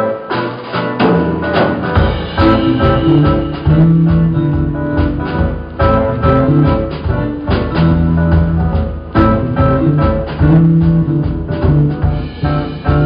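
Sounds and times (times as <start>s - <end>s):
guitar chords: 0.0s - 13.0s
live band playing pop: 0.0s - 13.0s.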